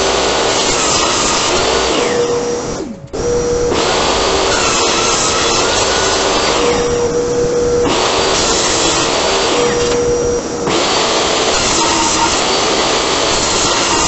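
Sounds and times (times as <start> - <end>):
table saw cutting wood: 0.0 - 14.0.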